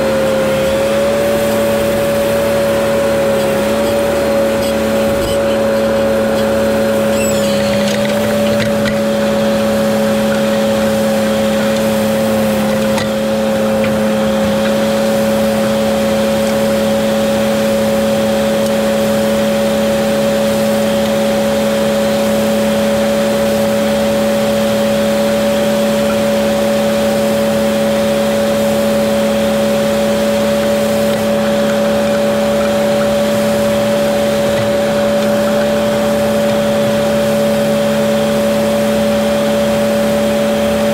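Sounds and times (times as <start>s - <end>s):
tractor droning with high whine: 0.0s - 40.9s.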